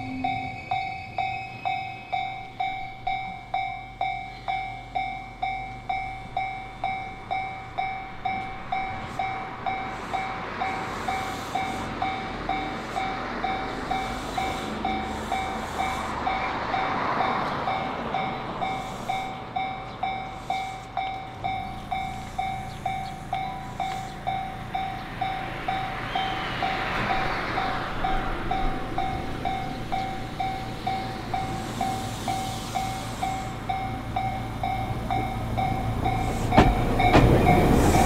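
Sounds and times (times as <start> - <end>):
electric train humming: 0.0 - 38.0.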